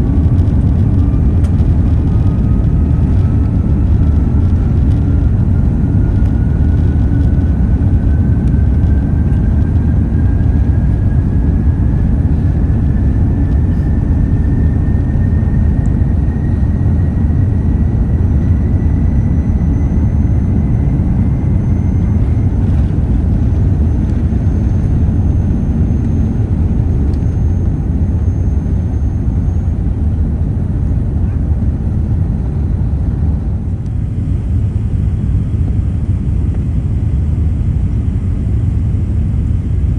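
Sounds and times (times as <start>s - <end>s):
faint rising whine: 0.0s - 39.9s
jet engine cabin rumble: 0.0s - 39.9s.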